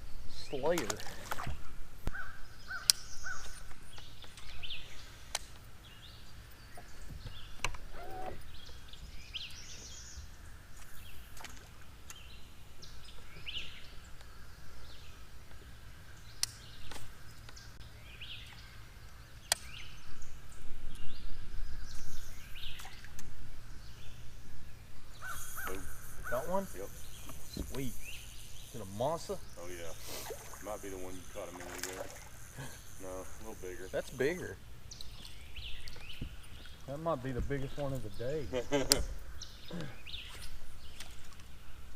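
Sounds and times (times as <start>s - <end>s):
birds chirping and calling: 0.0s - 41.9s.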